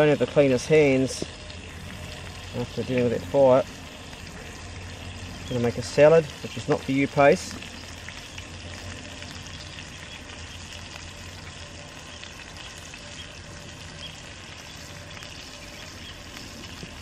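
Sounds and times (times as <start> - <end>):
fish sizzling and crackling: 0.0 - 17.0.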